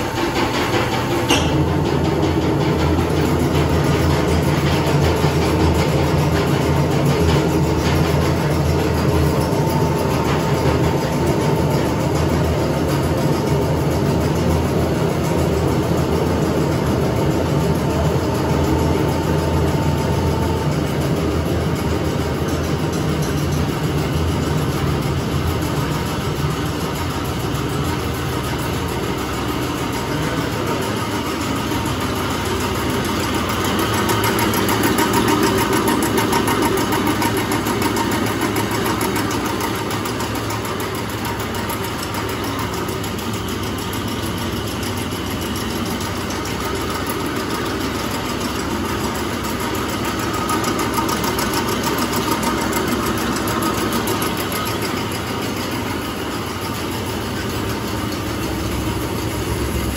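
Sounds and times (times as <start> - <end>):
mill machinery running: 0.0 - 59.9.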